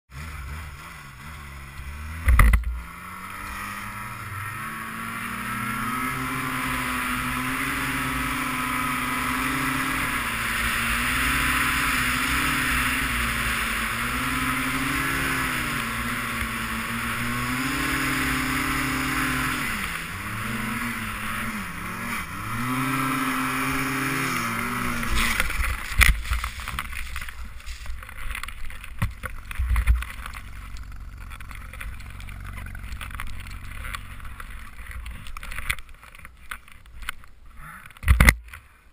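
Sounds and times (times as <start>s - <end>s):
snowmobile engine revving: 0.1s - 35.6s
hiss of wind and snow: 3.2s - 37.8s.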